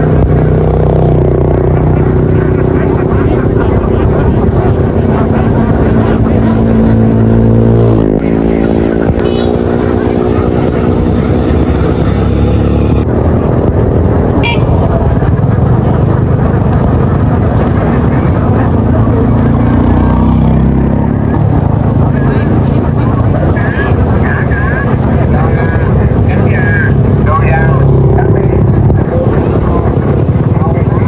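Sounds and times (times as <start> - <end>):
motor engine running: 0.0 - 31.0.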